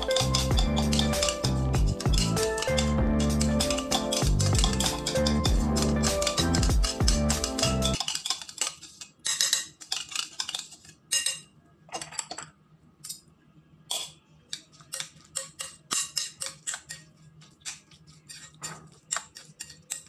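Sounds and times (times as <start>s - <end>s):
fork scraping glass bowl: 0.0s - 11.5s, 13.9s - 20.0s.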